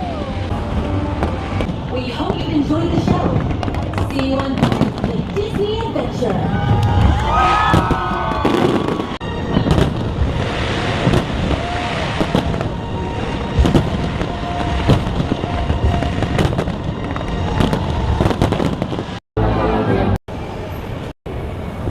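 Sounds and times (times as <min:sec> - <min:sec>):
fireworks bangs and crackles: 0:00.0 - 0:19.2.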